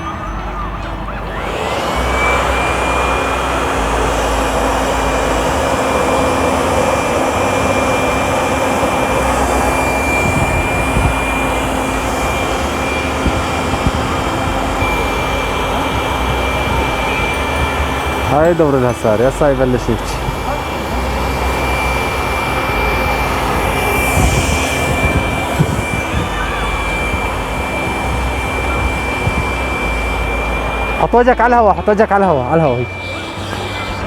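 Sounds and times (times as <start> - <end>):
electric air blower whining: 0.0 - 34.0.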